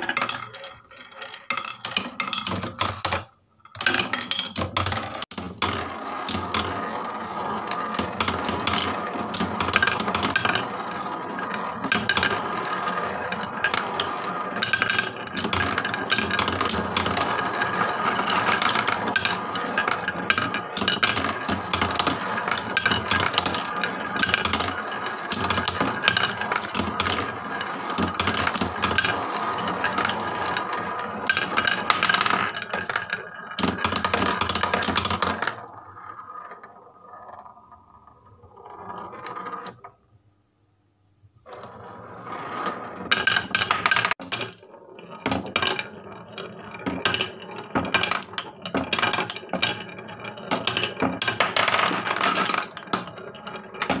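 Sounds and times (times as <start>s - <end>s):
marbles clattering down wooden run: 0.0s - 39.8s, 41.6s - 54.0s.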